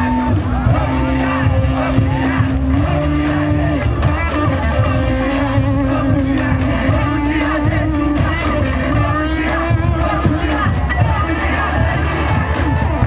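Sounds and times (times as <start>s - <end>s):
crowd singing: 0.0s - 13.0s
heavy bass: 0.0s - 13.0s
live carnival band music: 0.0s - 13.0s.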